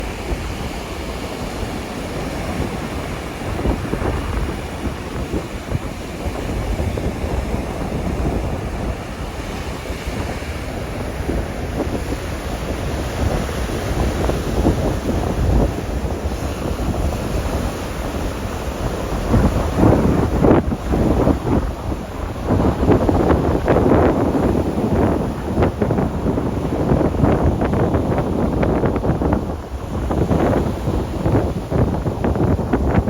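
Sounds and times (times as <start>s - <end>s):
gusty wind buffeting microphone: 0.0s - 33.0s
rough sea waves: 0.0s - 33.0s.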